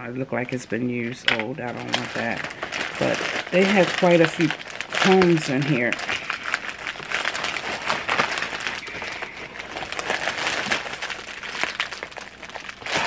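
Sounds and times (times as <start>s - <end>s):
plastic bag crinkling and rustling: 0.3s - 13.0s.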